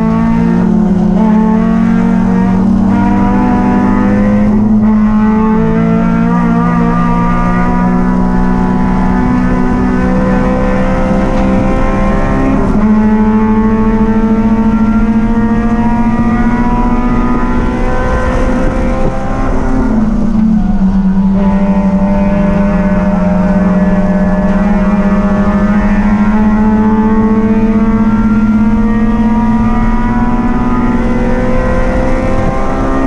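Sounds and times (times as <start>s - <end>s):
race car engine running hard: 0.0s - 33.0s.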